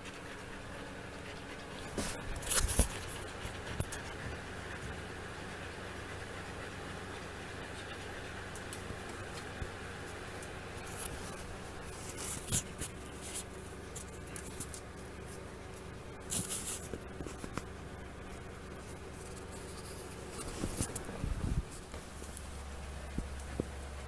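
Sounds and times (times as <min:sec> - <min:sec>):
scratchy rustling and clicking: 0:00.0 - 0:05.5, 0:06.6 - 0:15.5, 0:16.2 - 0:24.0.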